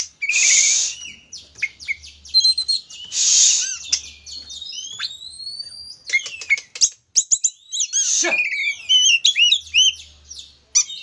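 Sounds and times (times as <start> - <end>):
bird singing chirps and whistles: 0.1 - 11.0.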